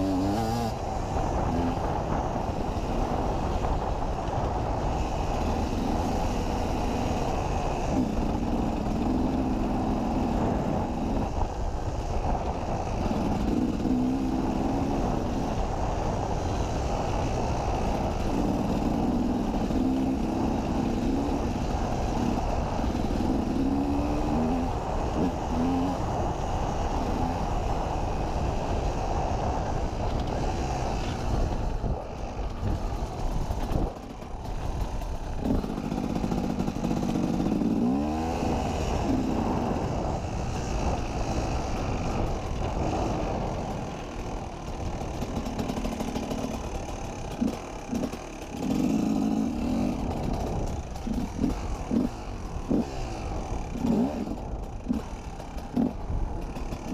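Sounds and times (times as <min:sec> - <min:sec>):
rushing noise and clatter: 0:00.0 - 0:56.9
two-stroke motorcycle engine revving: 0:00.0 - 0:56.9.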